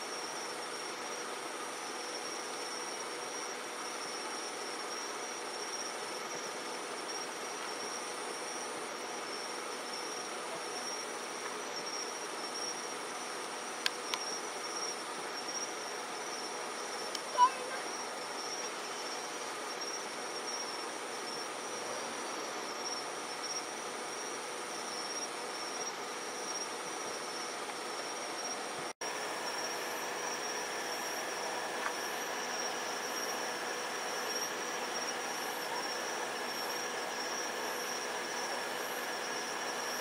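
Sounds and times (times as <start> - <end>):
night insects trilling: 0.0 - 40.0.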